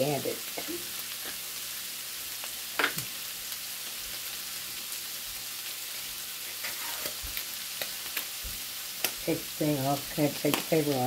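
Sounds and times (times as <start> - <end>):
chicken and onions sizzling in oil: 0.0 - 11.0.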